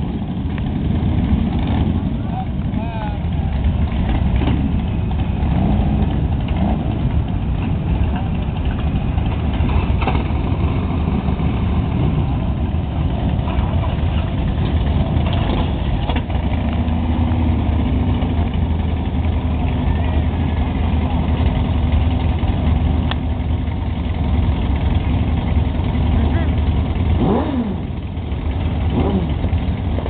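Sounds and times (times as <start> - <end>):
motorcycles idling: 0.0 - 30.0.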